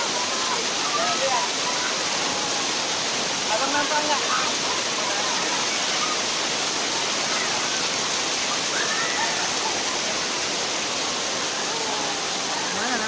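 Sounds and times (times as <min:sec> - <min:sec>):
faint voices: 0:00.0 - 0:13.0
waterfall rushing: 0:00.0 - 0:13.0.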